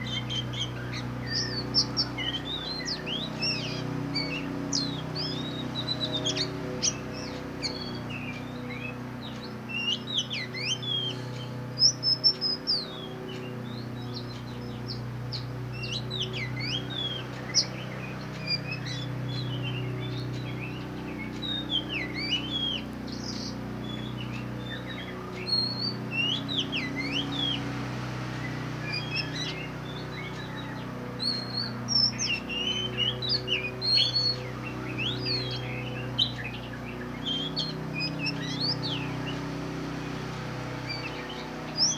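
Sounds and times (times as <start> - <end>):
bird singing whistled notes: 0.0 - 41.9
steady low hum: 0.0 - 41.9.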